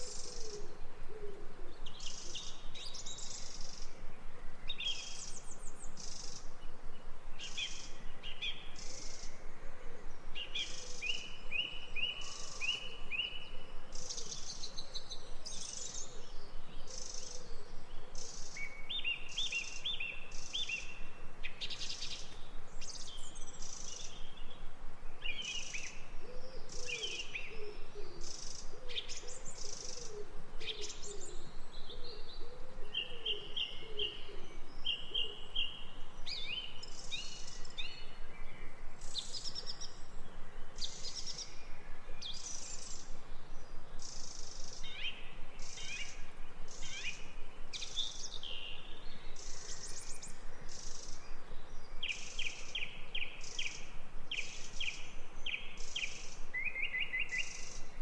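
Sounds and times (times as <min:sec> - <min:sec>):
faint outdoor hiss: 0:00.0 - 0:58.0.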